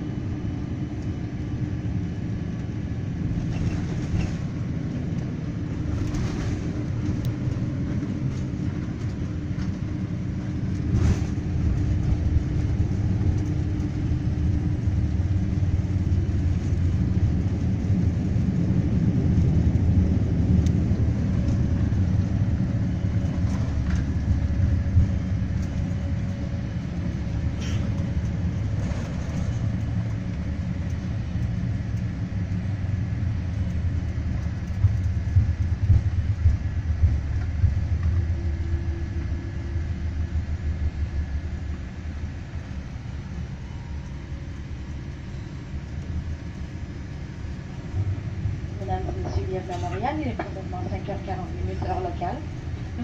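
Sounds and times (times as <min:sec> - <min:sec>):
airliner cabin rumble: 0:00.0 - 0:53.0.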